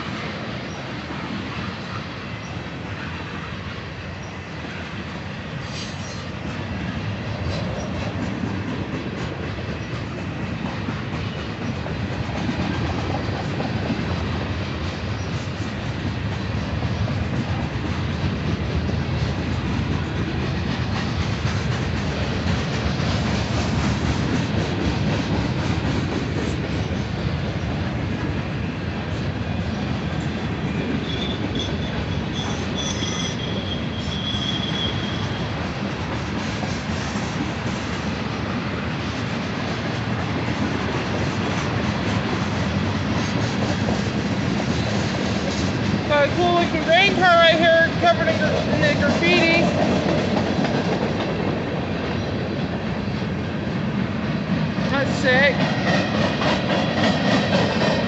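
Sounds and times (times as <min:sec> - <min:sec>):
freight train cars rumbling: 0:00.0 - 0:58.0.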